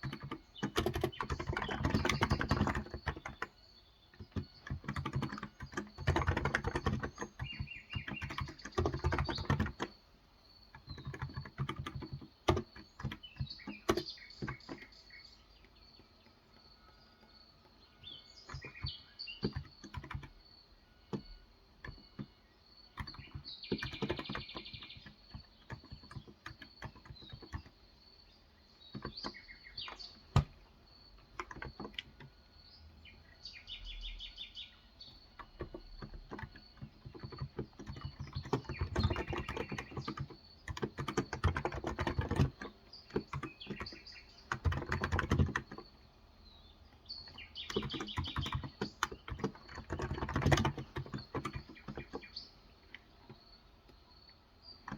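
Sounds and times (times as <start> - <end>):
keyboard typing: 0.0 - 28.0, 28.8 - 32.6, 34.0 - 54.9
birds chirping: 0.0 - 54.9.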